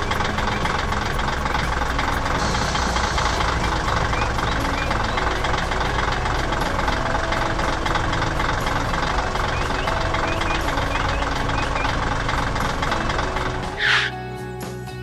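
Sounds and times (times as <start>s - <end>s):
heavy vehicle engine running: 0.0s - 14.1s.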